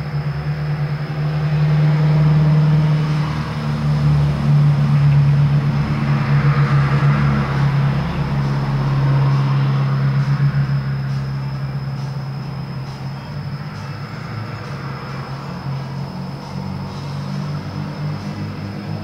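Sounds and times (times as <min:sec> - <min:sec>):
low engine drone: 0:00.0 - 0:19.0
vehicle passing by: 0:00.0 - 0:19.0.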